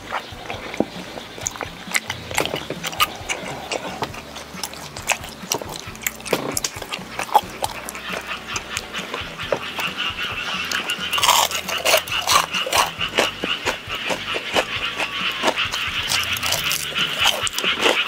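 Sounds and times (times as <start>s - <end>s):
food crunching: 0.0s - 18.0s
wet chewing: 0.0s - 18.0s.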